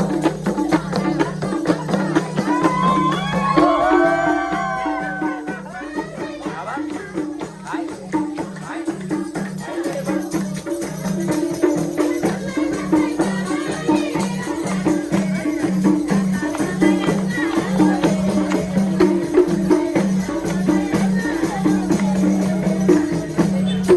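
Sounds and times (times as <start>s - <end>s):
tambourine jingling: 0.0s - 23.9s.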